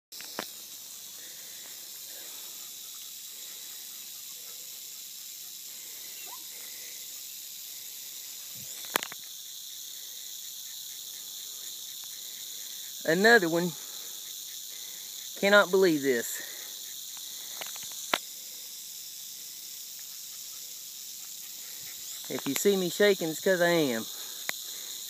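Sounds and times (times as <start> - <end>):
rattlesnake rattling: 0.1 - 25.0.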